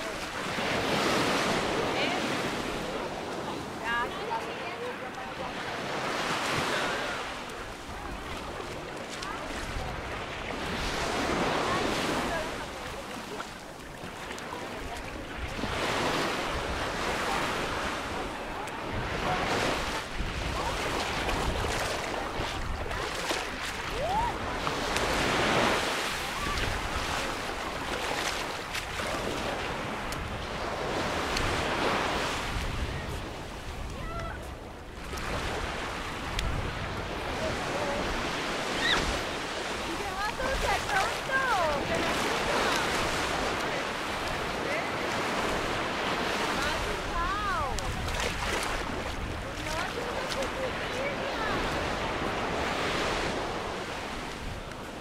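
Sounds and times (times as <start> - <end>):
small waves breaking on shore: 0.0 - 55.0.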